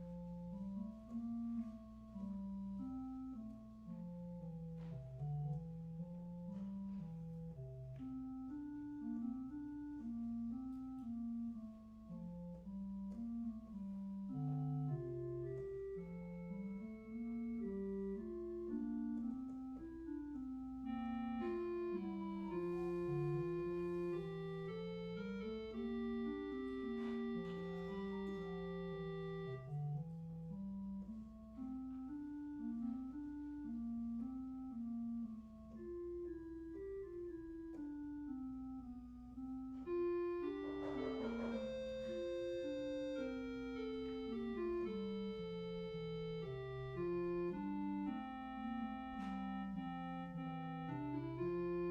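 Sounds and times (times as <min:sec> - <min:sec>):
organ music: 0:00.0 - 0:51.9.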